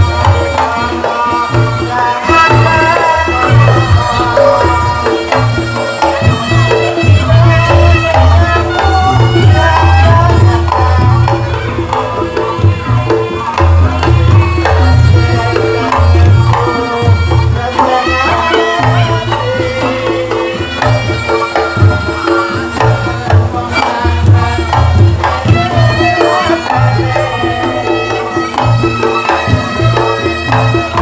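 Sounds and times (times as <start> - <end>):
hand drums: 0.0 - 31.0
reedy wind instrument melody: 0.0 - 31.0.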